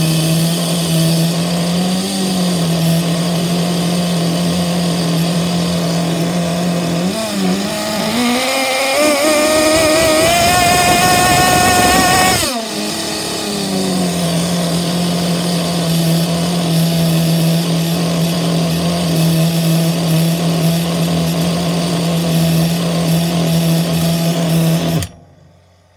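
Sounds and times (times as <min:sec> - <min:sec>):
model engine idling and revving: 0:00.0 - 0:25.2.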